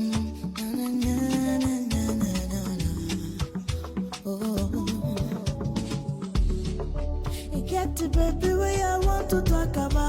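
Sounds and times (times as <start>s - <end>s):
afrobeat instrumental music: 0.0s - 10.0s.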